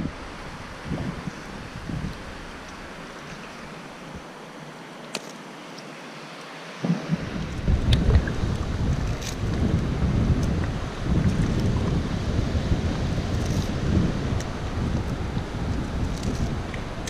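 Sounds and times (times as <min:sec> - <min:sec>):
wind buffeting microphone: 0:00.0 - 0:04.3, 0:06.8 - 0:17.0.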